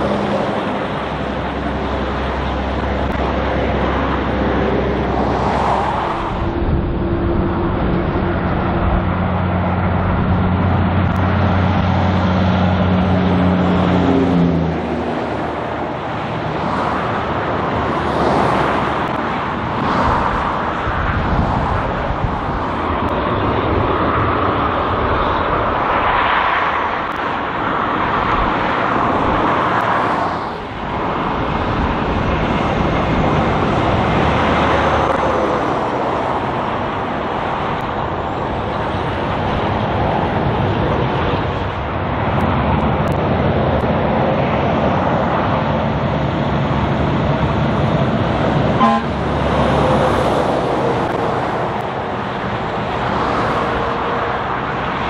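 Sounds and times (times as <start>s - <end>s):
diesel truck engine pulling: 0.0s - 26.1s, 26.8s - 55.0s
passing vehicles road noise: 0.0s - 55.0s.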